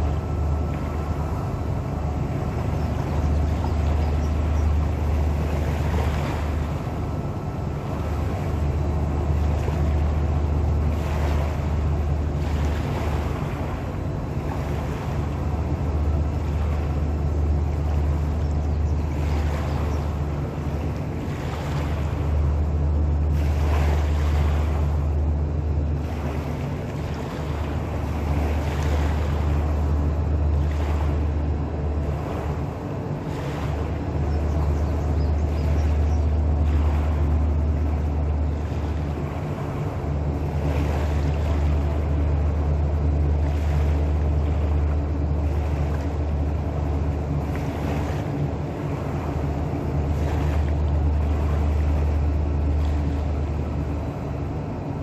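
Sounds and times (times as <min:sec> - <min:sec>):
low engine drone: 0:00.0 - 0:55.0.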